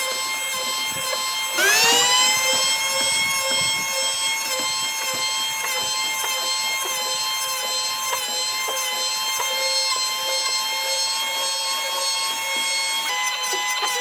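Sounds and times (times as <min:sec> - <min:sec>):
motor spinning up: 0:00.0 - 0:14.0
power tool motor whining: 0:00.0 - 0:14.0.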